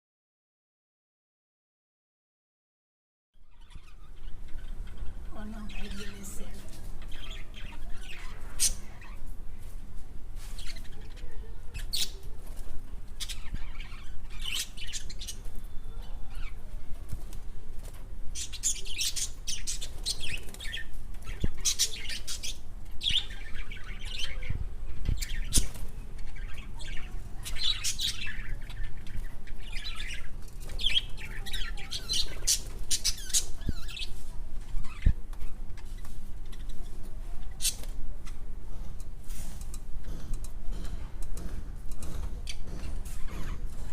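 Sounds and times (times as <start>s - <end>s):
birds chirping and squawking: 3.4s - 9.8s, 10.4s - 43.9s.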